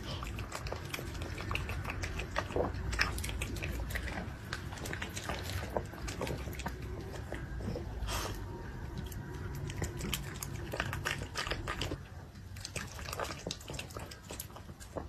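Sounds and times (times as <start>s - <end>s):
dog chewing and lip smacking: 0.0s - 15.0s.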